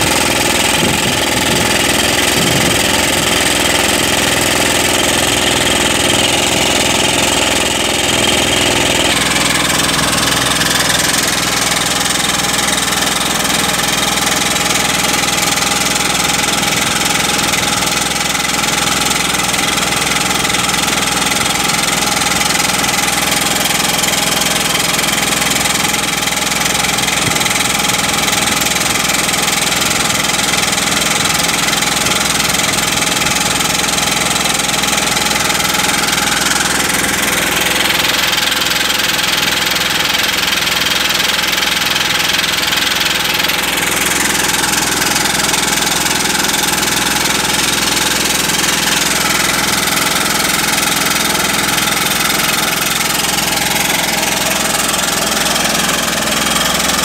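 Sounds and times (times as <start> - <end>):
pneumatic drill hammering: 0.0 - 57.0.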